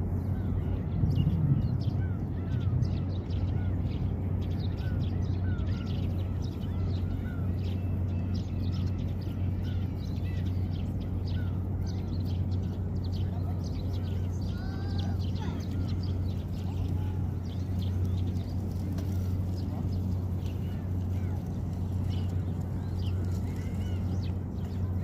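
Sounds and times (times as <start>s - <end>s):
sparrows chirping: 0.0s - 25.0s
steady low hum: 0.0s - 25.0s.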